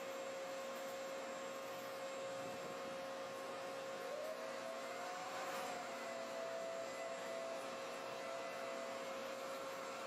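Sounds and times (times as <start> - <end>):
hiss: 0.0 - 10.0
steady hum: 0.0 - 10.0.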